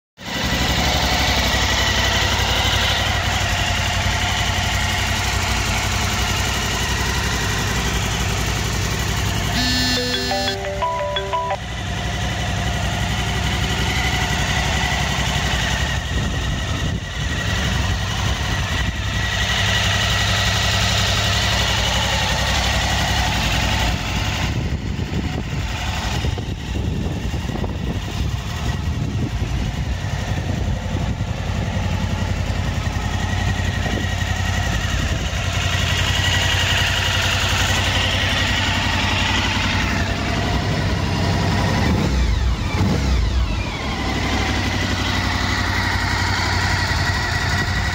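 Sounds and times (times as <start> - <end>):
motorcycle engine idling: 0.3 - 10.2, 11.6 - 47.9.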